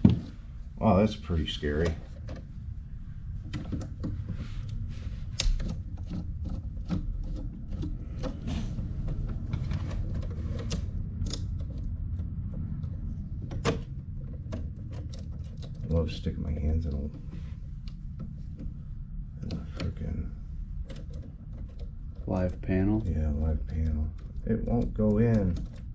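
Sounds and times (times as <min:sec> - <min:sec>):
steady low hum: 0:00.0 - 0:25.9
small clicks and taps: 0:03.4 - 0:18.8, 0:19.4 - 0:25.9.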